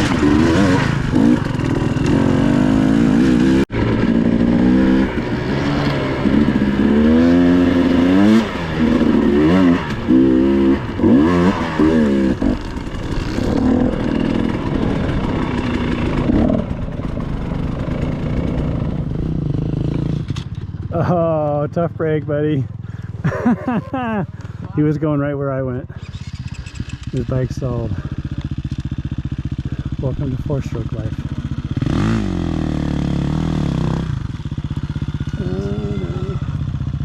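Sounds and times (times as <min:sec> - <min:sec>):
dirt bike engine revving: 0:00.0 - 0:22.0, 0:23.0 - 0:37.0.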